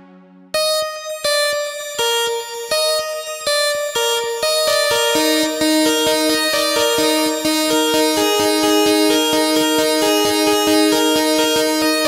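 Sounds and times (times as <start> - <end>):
synthesizer lead notes: 0.0 - 12.0.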